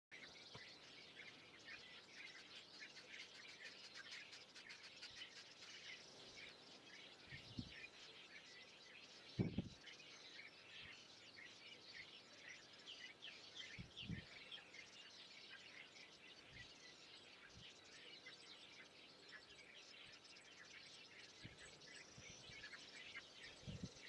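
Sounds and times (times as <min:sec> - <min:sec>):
songbirds chirping: 0:00.1 - 0:24.0.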